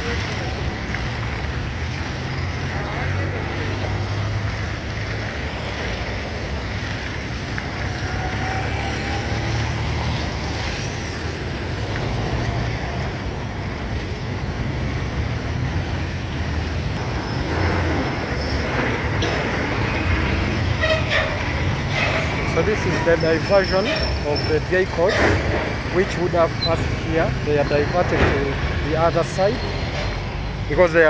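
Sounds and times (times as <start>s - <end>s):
vehicles passing on road: 0.0s - 31.0s.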